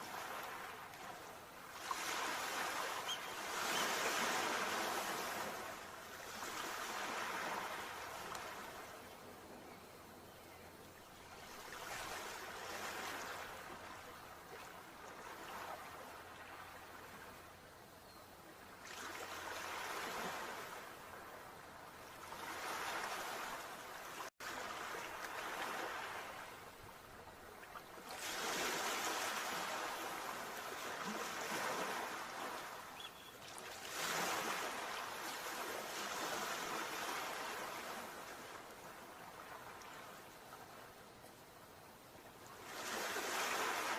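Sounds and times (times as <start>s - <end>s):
sea waves breaking on shore: 0.0s - 9.3s, 11.2s - 17.5s, 18.6s - 41.0s, 41.8s - 43.9s.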